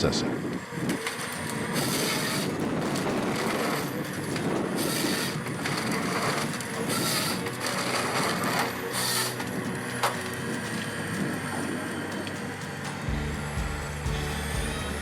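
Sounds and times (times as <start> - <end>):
forest harvester crushing wood: 1.0 - 15.0.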